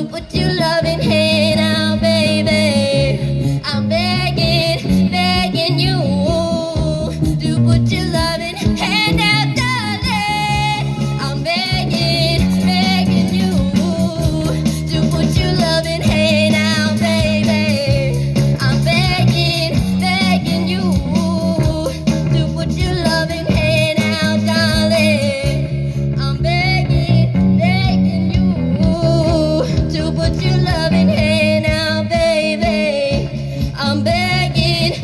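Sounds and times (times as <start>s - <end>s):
bass guitar: 0.0s - 35.0s
drum kit: 0.0s - 35.0s
electric guitar: 0.0s - 35.0s
rock band playing: 0.0s - 35.0s.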